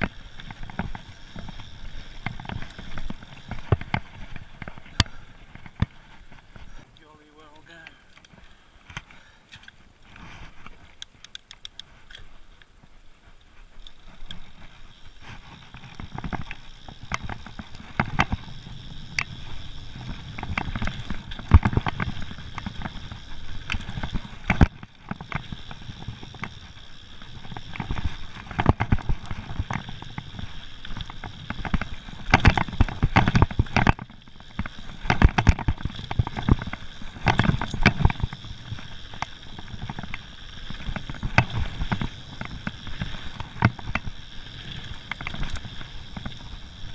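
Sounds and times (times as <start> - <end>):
bike rattling and knocking: 0.0 - 9.4, 13.9 - 46.9
bike tyres rumbling on dirt: 0.0 - 11.2, 11.9 - 46.9.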